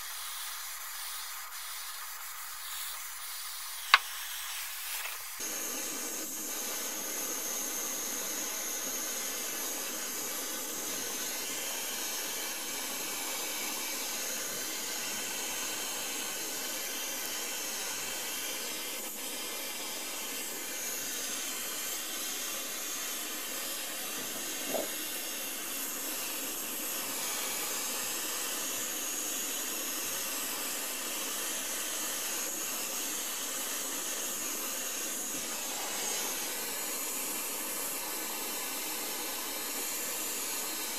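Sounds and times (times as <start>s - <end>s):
gas torch flame hissing: 0.0s - 40.9s.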